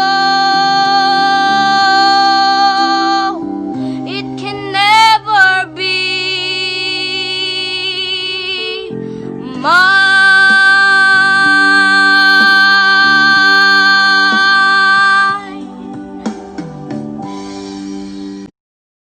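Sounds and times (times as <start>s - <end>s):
woman singing: 0.0s - 15.9s
backing music: 0.0s - 18.5s.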